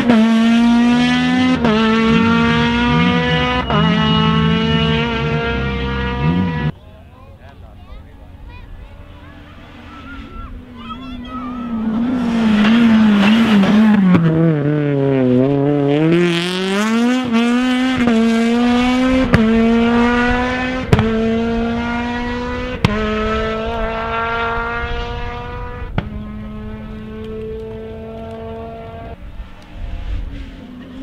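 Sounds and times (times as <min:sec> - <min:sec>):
rally car engine at full throttle: 0:00.0 - 0:06.9, 0:07.5 - 0:31.0.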